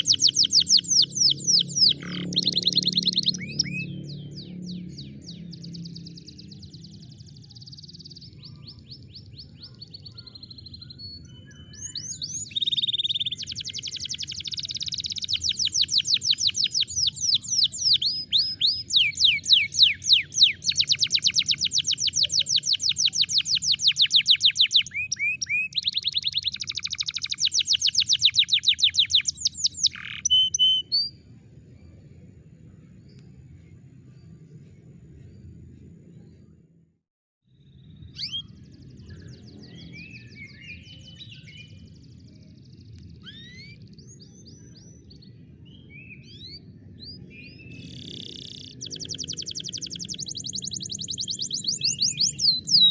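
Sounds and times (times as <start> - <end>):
canary singing trills: 0.0 - 31.2, 37.8 - 42.2, 43.2 - 45.3, 45.9 - 52.9.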